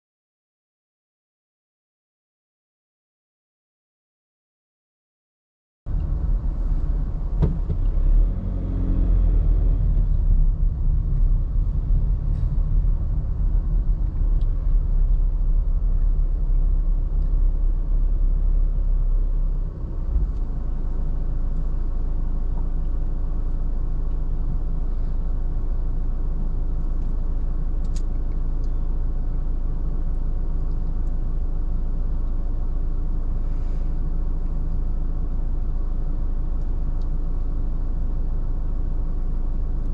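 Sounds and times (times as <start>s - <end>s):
car engine and tyres rumbling: 5.9s - 39.9s.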